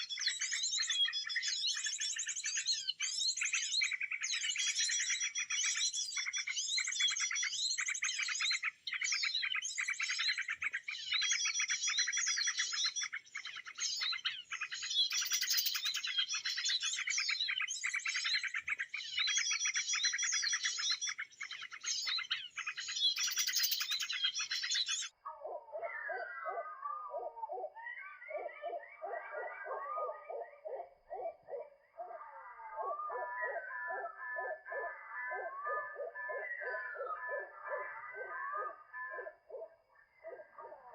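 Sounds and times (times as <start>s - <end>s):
high-pitched bird chirping: 0.0s - 40.9s
lower-pitched bird calls: 0.0s - 40.9s.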